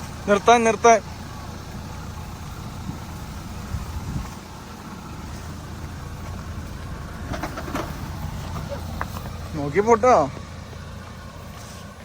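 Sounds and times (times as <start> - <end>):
engine running with low rumble: 0.0 - 12.0.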